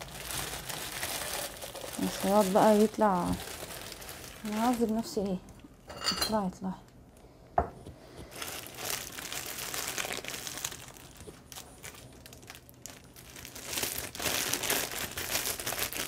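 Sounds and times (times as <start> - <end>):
wrapper crinkling and rustling: 0.0 - 5.7, 8.3 - 16.0.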